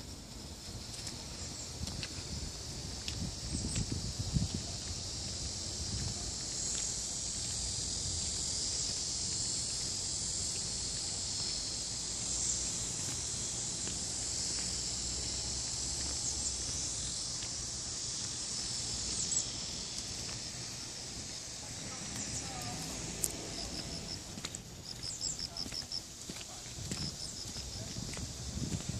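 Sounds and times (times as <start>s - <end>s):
insects buzzing in trees: 0.0s - 28.9s.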